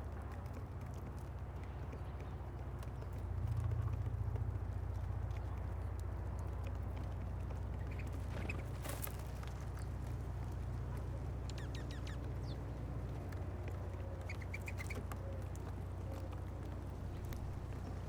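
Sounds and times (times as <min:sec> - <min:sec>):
songbirds chirping: 0:00.0 - 0:18.0
faint clicks: 0:00.1 - 0:18.0.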